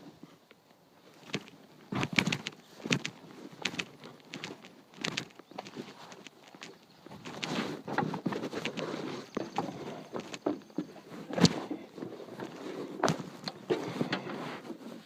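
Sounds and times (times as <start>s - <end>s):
handling noises rustling: 0.2s - 15.0s.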